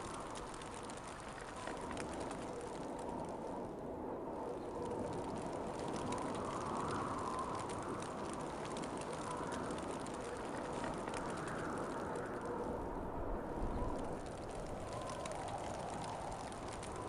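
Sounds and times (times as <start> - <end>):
faint ticks: 0.0 - 3.8, 4.4 - 17.0
wind blowing in gusts: 0.0 - 17.0.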